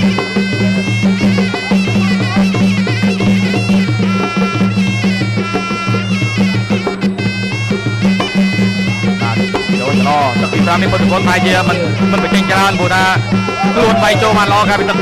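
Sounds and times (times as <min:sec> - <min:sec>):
reedy oboe melody: 0:00.0 - 0:15.0
steady drumming: 0:00.0 - 0:15.0.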